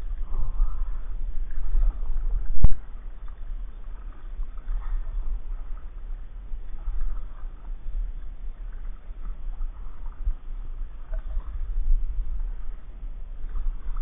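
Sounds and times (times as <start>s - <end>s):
faint water noise: 0.0s - 14.0s
low rumble: 0.0s - 14.0s.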